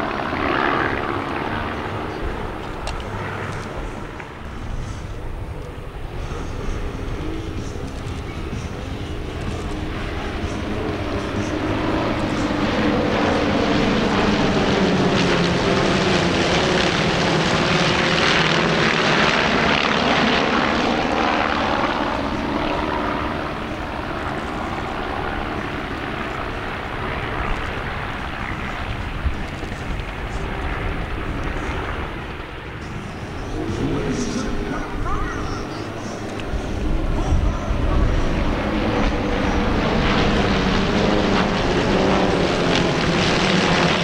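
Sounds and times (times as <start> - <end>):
propeller planes droning past: 0.0 - 44.0.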